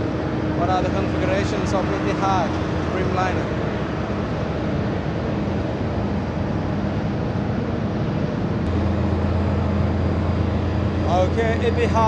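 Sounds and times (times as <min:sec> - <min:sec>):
ground support cart hum: 0:00.0 - 0:12.0.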